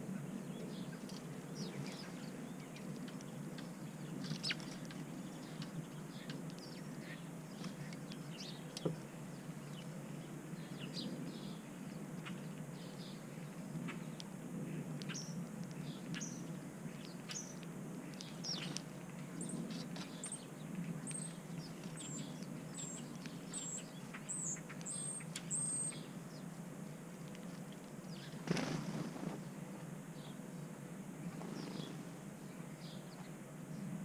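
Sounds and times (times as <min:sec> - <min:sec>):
small birds chirping: 0:00.0 - 0:14.3, 0:15.0 - 0:30.5, 0:31.2 - 0:34.0
steady low hum: 0:00.0 - 0:34.0.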